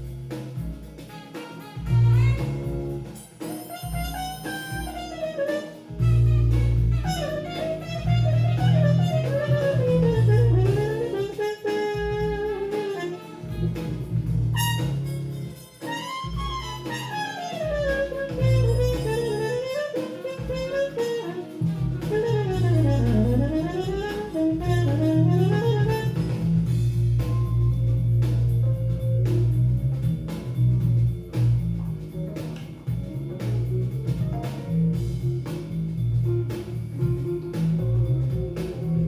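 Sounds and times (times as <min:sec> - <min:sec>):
heavy bass line: 0:00.0 - 0:01.0, 0:01.8 - 0:03.2, 0:03.9 - 0:15.6, 0:16.2 - 0:39.0
drums: 0:00.0 - 0:39.0
jazz fusion band playing: 0:00.0 - 0:39.0.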